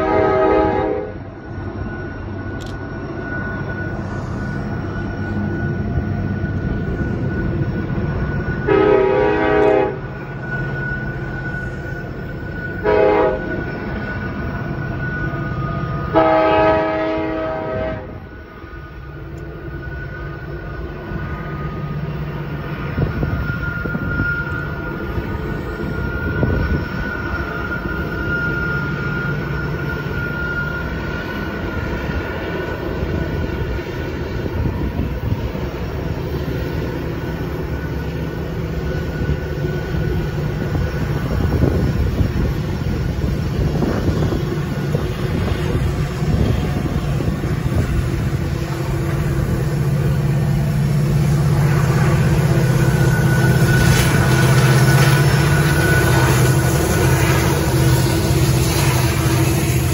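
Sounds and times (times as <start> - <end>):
diesel locomotive drone: 0.0 - 59.9
freight train wheels rumbling: 0.0 - 59.9.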